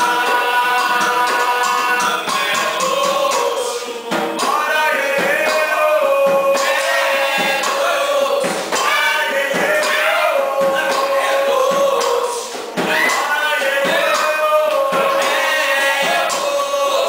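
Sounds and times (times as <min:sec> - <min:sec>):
group of voices singing: 0:00.0 - 0:17.0
percussion strikes: 0:00.0 - 0:17.0.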